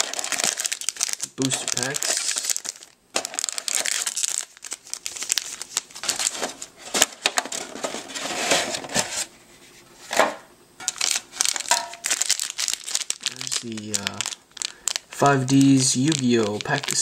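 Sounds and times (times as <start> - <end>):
foil packs crinkling: 0.0 - 9.3, 10.8 - 17.0.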